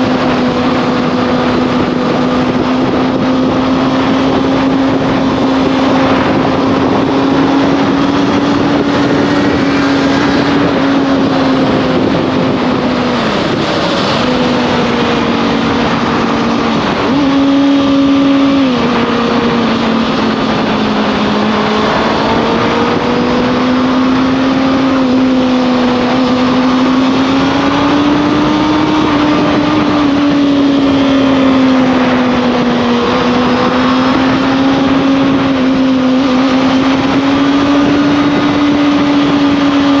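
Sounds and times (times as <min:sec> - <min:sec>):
motorcycle engine running: 0:00.0 - 0:40.0
steady rushing noise: 0:00.0 - 0:40.0.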